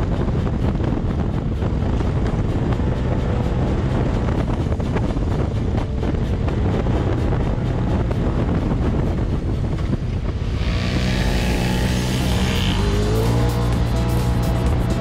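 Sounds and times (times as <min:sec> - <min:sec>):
background music: 0:00.0 - 0:15.0
dirt bike engine running: 0:00.0 - 0:15.0
wind noise on microphone: 0:00.0 - 0:15.0.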